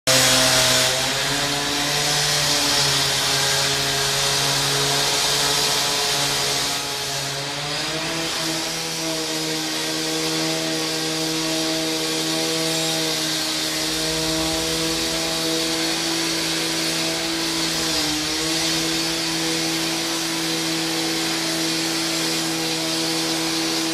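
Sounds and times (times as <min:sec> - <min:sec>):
angle grinder motor whine: 0:00.1 - 0:23.9
grinder hissing edge: 0:00.1 - 0:23.9.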